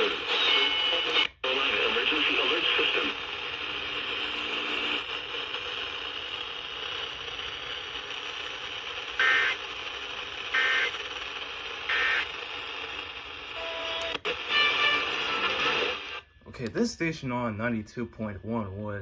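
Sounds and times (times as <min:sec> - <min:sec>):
radio hiss: 0:00.0 - 0:18.4.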